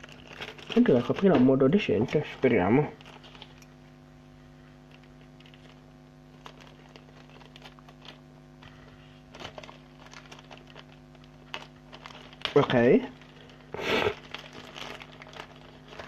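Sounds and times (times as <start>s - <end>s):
plastic packaging rustling: 0.0s - 3.8s, 4.5s - 16.0s
steady low hum: 0.0s - 16.0s.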